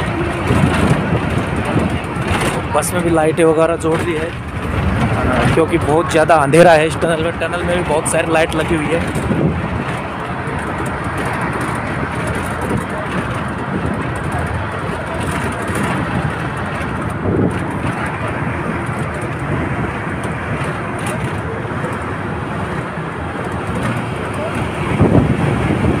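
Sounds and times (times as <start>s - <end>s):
bus road and engine noise: 0.0s - 26.0s.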